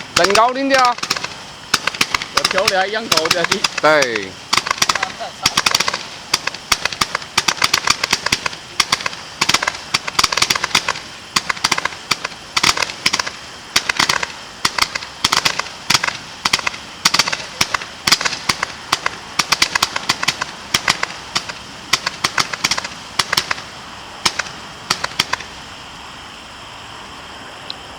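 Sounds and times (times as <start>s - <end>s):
firework bangs and crackles: 0.0s - 26.4s.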